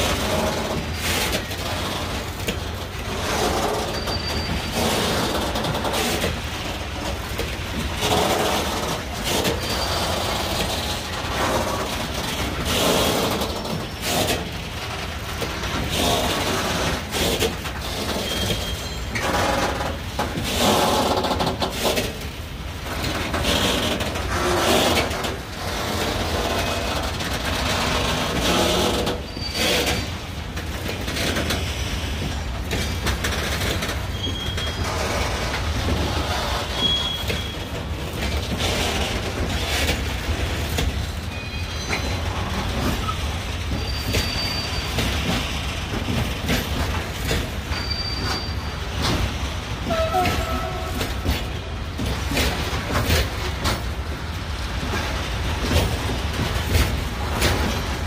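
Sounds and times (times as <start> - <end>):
wheel squeals: 0.0 - 7.1, 8.0 - 22.1, 23.3 - 30.4, 31.2 - 40.0, 40.8 - 51.6, 56.6 - 58.0
knocks and clatter: 0.0 - 58.0
train wheels rumbling on rail: 0.0 - 58.0.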